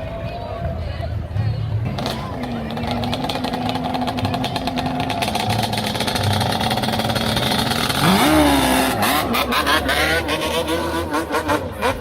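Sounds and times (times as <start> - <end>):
vehicle engine revving: 1.8 - 12.0.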